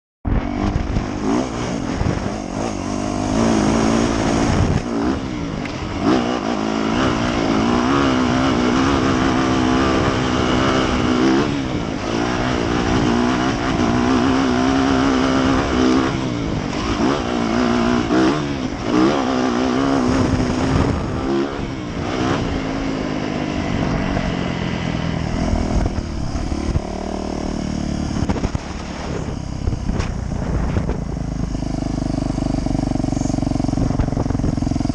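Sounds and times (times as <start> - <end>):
dirt bike engine revving: 0.3 - 34.9.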